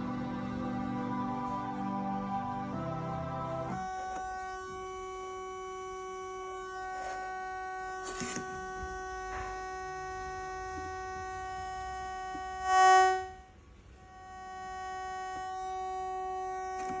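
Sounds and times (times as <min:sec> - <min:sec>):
electronic static buzz: 0:00.0 - 0:17.0.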